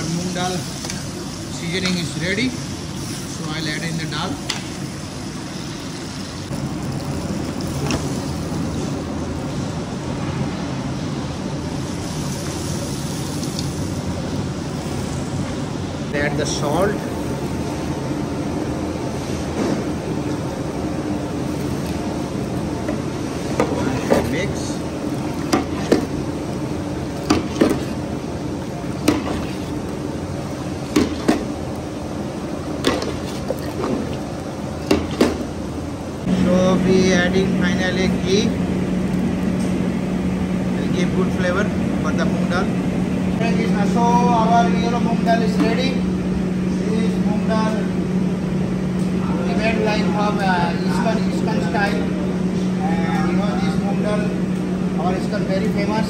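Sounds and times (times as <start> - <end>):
range hood ventilation roar: 0.0 - 56.0
steady background hiss: 0.0 - 56.0.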